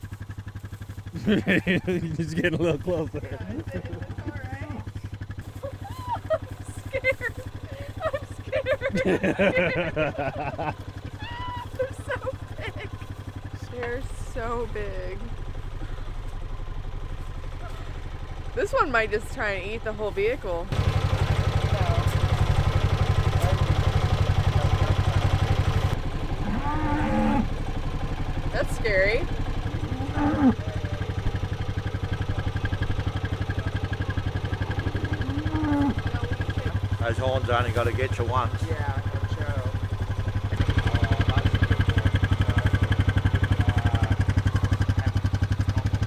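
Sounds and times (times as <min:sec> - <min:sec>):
atv engine idling: 0:00.0 - 0:46.0.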